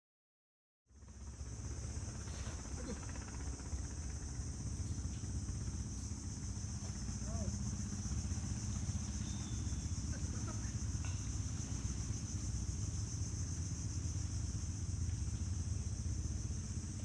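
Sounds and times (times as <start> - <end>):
insects droning: 0.9 - 17.0.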